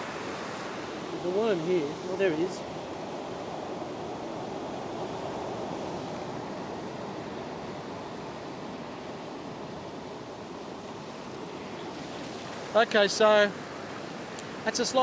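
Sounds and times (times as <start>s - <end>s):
waves washing over sand: 0.0s - 15.0s.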